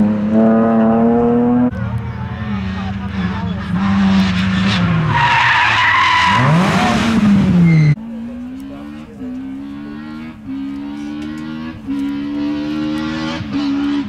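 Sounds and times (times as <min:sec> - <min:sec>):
rally car accelerating through gears: 0:00.0 - 0:01.8, 0:02.5 - 0:14.0
rally car engine revving: 0:00.0 - 0:14.0.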